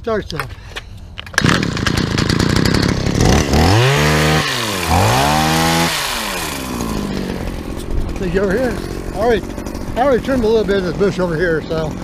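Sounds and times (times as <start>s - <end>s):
hedge trimmer engine revving: 1.3s - 12.0s.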